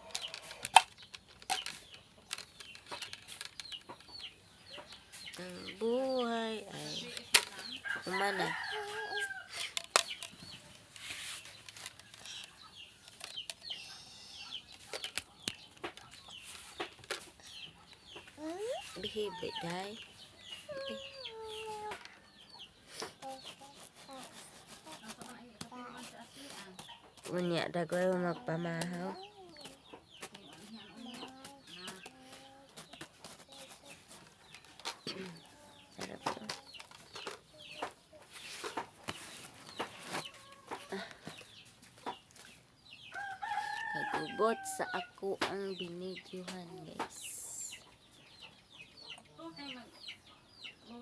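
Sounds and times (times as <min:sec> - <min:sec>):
chickens clucking: 0:03.6 - 0:51.0.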